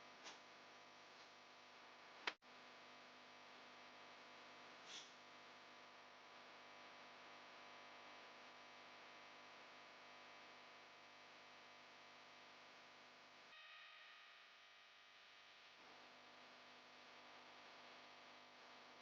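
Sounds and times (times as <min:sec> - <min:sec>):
faint hiss and hum: 0:00.0 - 0:19.0.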